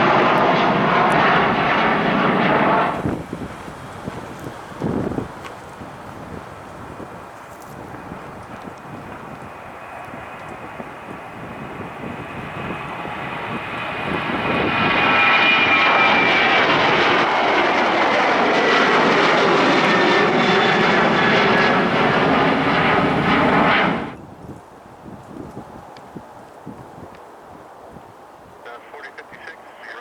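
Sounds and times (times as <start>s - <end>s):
jet airliner engines whining: 0.0s - 24.2s, 28.7s - 30.0s.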